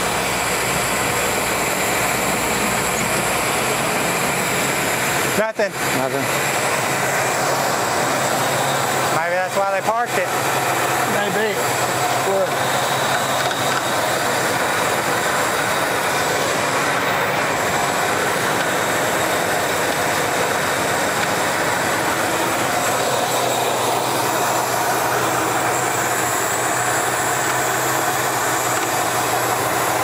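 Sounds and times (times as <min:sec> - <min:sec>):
car engine running: 0:00.0 - 0:30.0
fan tapping shroud: 0:02.6 - 0:30.0.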